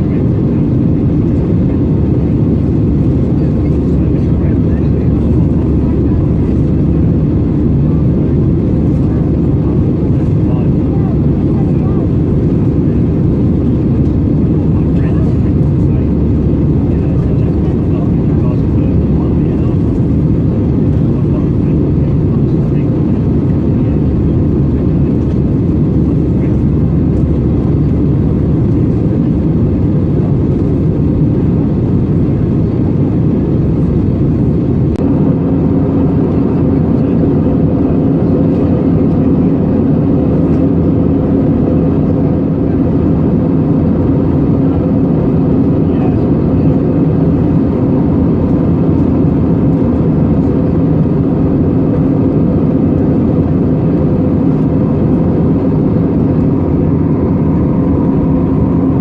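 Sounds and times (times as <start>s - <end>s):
airplane cabin engine and airflow noise: 0.0s - 59.0s
higher-pitched steady hum: 0.0s - 59.0s.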